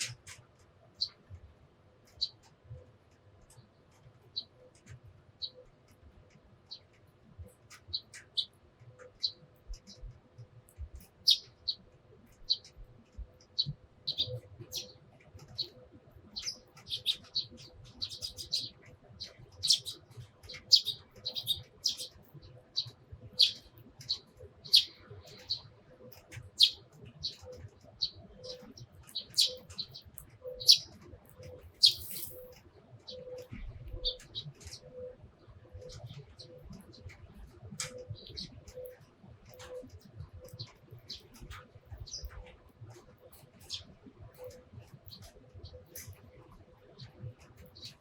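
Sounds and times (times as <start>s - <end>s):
sparrows chirping: 1.0s - 1.2s, 2.0s - 2.5s, 3.4s - 5.7s, 6.6s - 10.1s, 10.9s - 46.2s, 46.8s - 48.0s.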